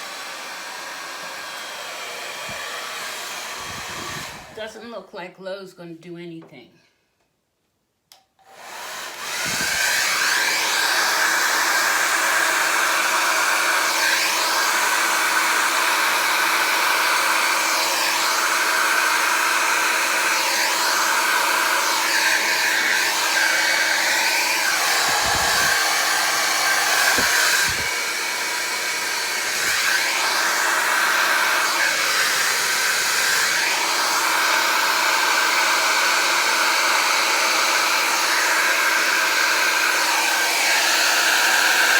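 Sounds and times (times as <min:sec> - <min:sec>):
hair dryer running: 0:00.0 - 0:04.7, 0:08.4 - 0:41.9.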